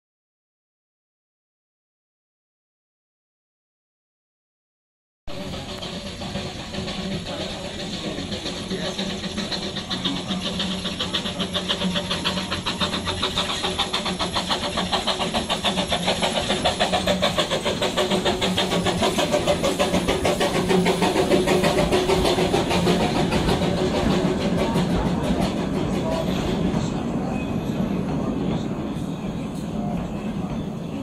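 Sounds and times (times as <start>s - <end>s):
steam locomotive chuffing: 5.3s - 31.0s.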